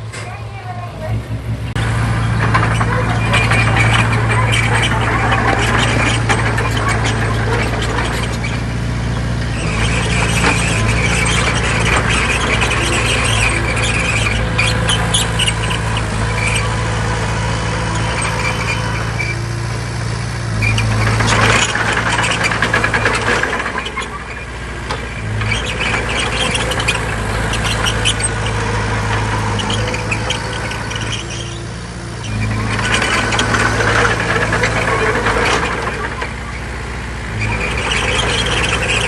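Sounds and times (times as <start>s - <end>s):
bulldozer diesel engine running: 0.0s - 39.0s
steel tracks squeaking and clanking: 0.0s - 39.0s.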